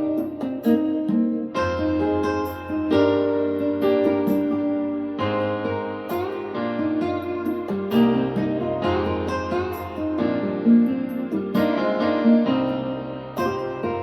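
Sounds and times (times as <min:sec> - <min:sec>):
instrumental music through speakers: 0:00.0 - 0:14.0
sharp pitched notes: 0:00.0 - 0:14.0.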